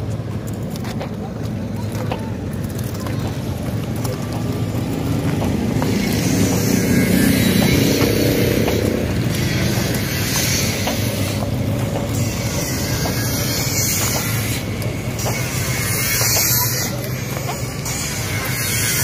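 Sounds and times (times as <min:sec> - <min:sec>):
footsteps on concrete: 0:00.0 - 0:19.0
low outdoor rumble: 0:00.0 - 0:19.0.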